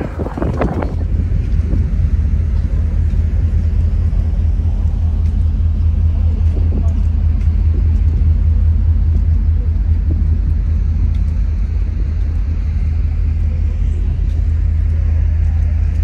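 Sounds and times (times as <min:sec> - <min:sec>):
ferry low rumble: 0:00.0 - 0:16.0
wind buffeting microphone: 0:00.0 - 0:16.0.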